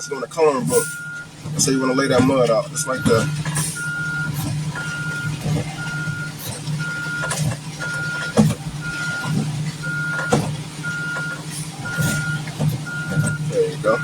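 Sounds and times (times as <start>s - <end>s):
diesel engine hum: 0.0s - 14.0s
truck backup alarm beeping: 0.0s - 14.0s.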